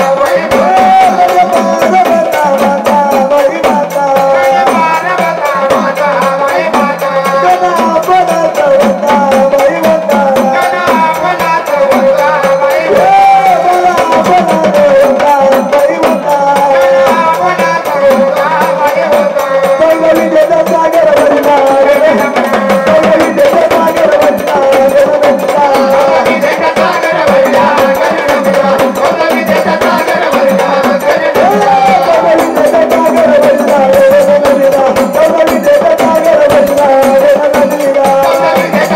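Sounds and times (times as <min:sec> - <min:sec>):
hand drum beats: 0:00.0 - 0:38.9.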